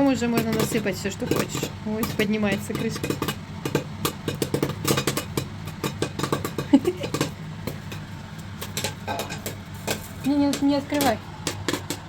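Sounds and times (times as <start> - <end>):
popcorn popping in pot: 0.0 - 12.0.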